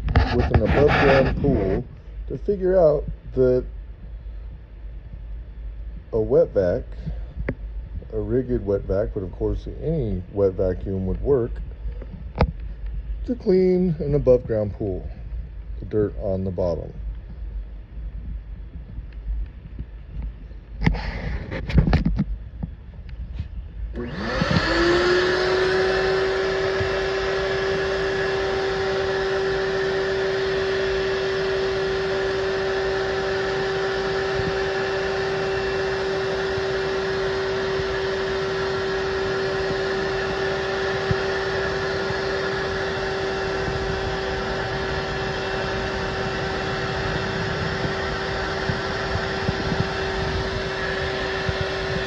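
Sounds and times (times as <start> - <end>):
shop vacuum motor whining: 0.0 - 4.6, 6.0 - 17.4, 19.1 - 52.0.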